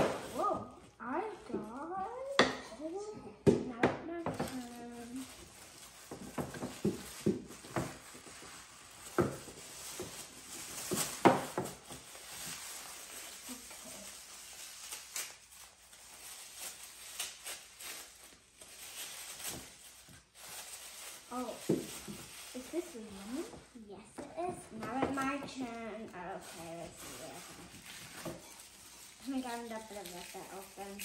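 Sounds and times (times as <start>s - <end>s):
paper rustling and crinkling: 4.3s - 23.7s, 24.4s - 31.0s.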